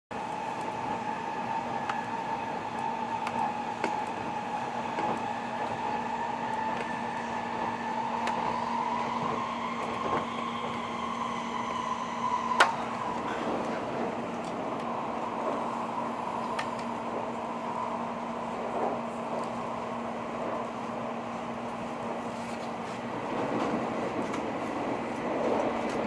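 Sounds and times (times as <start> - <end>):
train interior hum and rumble: 0.1 - 26.0.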